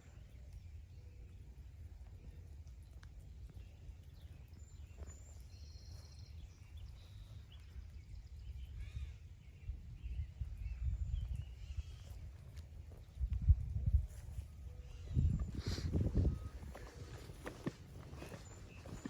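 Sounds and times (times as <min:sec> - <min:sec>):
birds chirping: 0:00.0 - 0:13.4, 0:14.0 - 0:19.0
wind rumble on microphone: 0:00.0 - 0:19.0.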